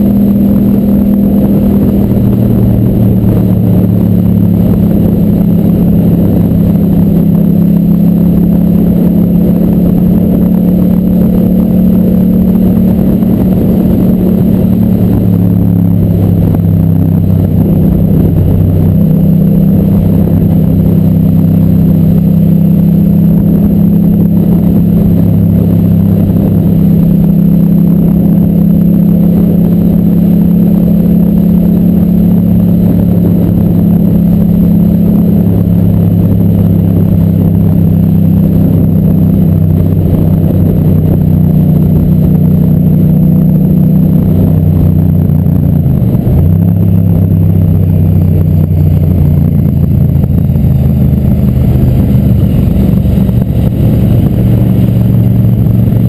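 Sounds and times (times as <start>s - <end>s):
motorcycle engine revving high: 0.0s - 56.0s.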